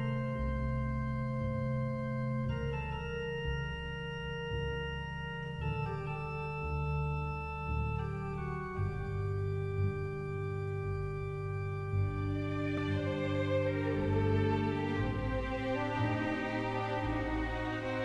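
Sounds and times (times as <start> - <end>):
slow organ music: 0.0 - 18.0.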